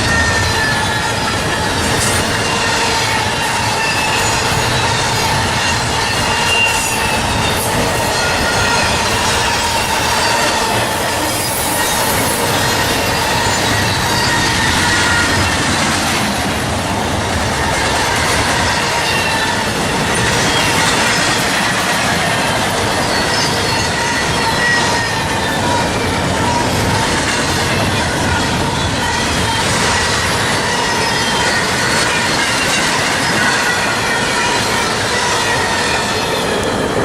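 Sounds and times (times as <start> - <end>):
wheel squeals: 0.0 - 16.4, 17.4 - 37.0
freight train cars rolling: 0.0 - 37.0.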